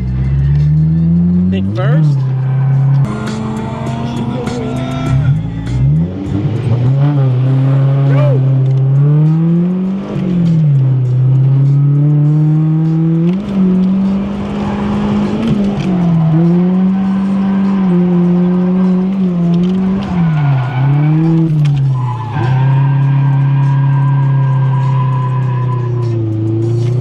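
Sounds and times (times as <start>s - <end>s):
car engine at high revs: 0.0s - 27.0s.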